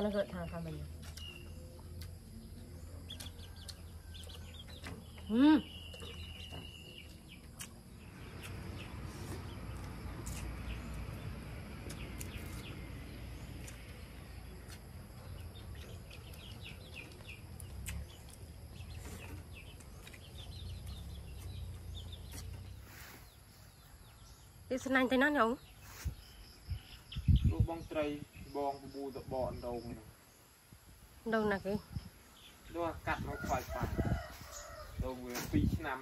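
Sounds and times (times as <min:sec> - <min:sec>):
bird chirps: 0:00.0 - 0:30.4.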